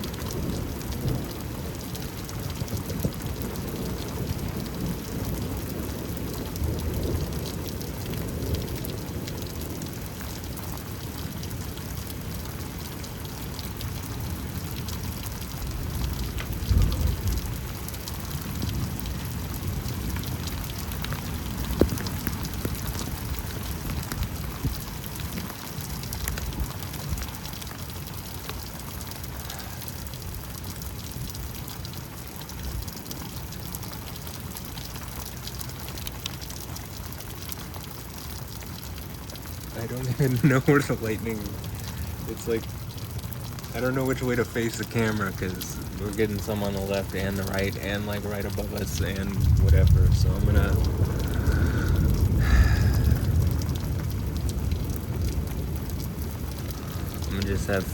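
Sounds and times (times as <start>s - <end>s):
thunder rumbling: 0.0s - 36.0s, 36.7s - 57.9s
rain falling: 0.0s - 57.9s.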